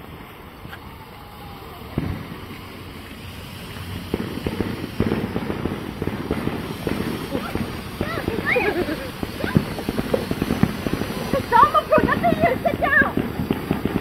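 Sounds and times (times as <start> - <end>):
firework fountain hissing and crackling: 0.0 - 14.0.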